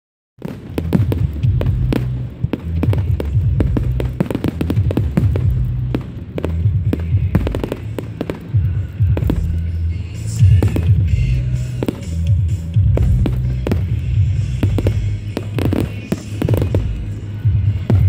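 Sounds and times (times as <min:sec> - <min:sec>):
fireworks bangs and crackles: 0:00.4 - 0:18.0.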